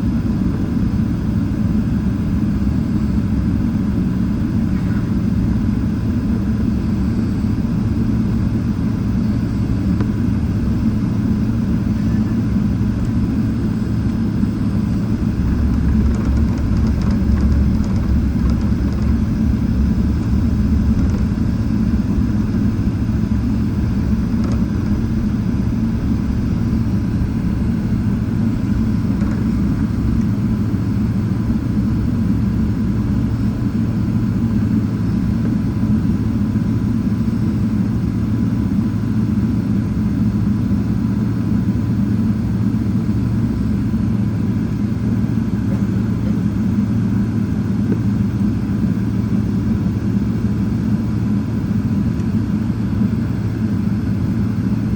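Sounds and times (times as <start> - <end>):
jet engines low rumble: 0.0 - 54.9.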